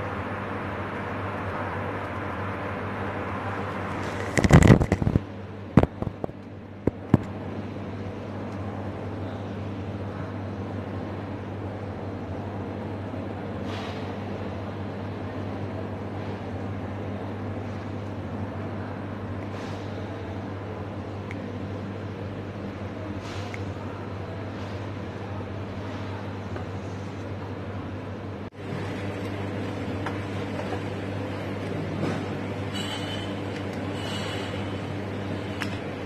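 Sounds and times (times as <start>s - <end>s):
steady fan hum: 0.0s - 36.0s.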